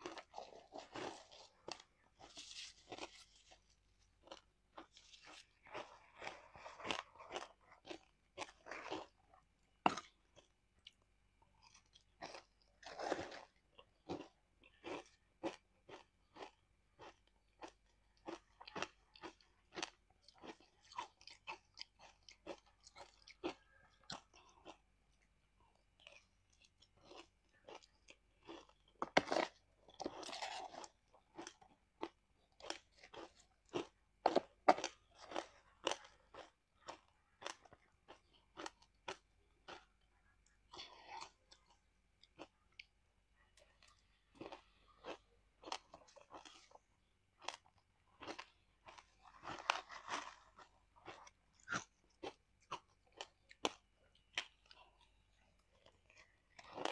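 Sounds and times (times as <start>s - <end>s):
ice crunching while chewed: 0.0s - 56.9s.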